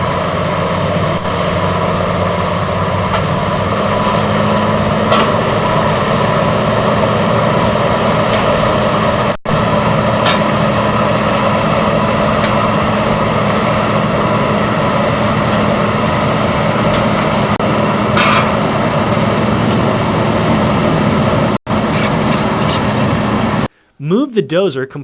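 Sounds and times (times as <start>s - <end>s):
bulldozer diesel engine running: 0.0s - 23.7s.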